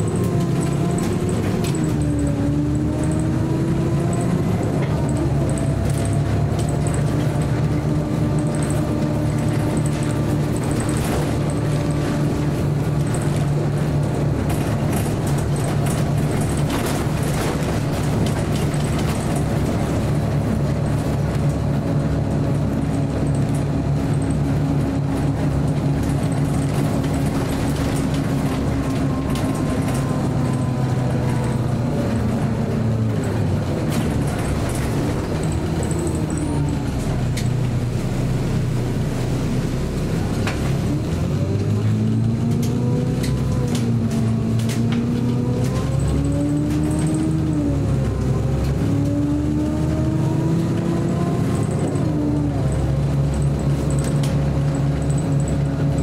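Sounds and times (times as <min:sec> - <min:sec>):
bus diesel engine drone: 0:00.0 - 0:56.0
bus interior rattles: 0:00.0 - 0:56.0.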